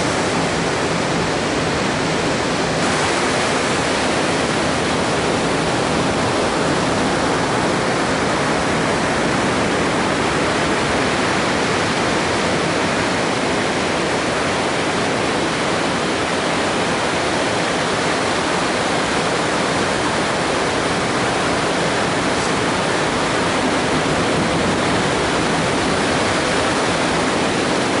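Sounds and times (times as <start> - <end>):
surf rushing on shore: 0.0 - 28.0.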